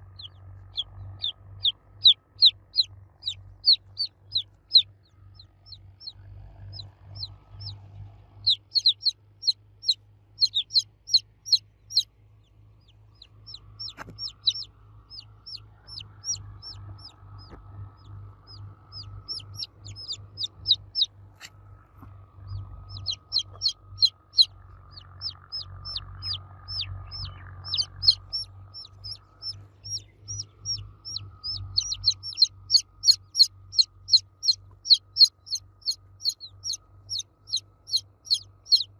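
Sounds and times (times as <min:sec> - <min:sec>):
baby chicks cheeping: 0:00.0 - 0:38.9.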